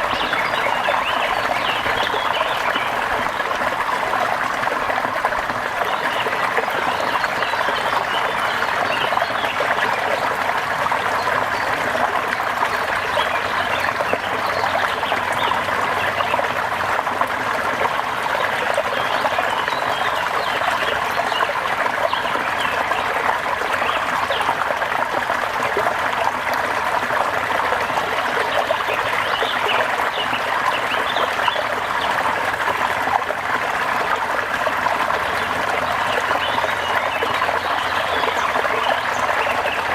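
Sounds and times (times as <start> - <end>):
rain with running water: 0.0 - 39.9.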